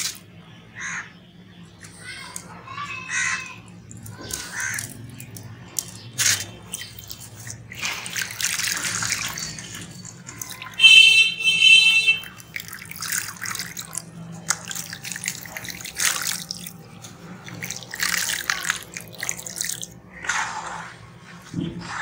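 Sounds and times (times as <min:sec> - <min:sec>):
wet lumps splashing into water: 0:00.0 - 0:00.4, 0:03.4 - 0:21.6.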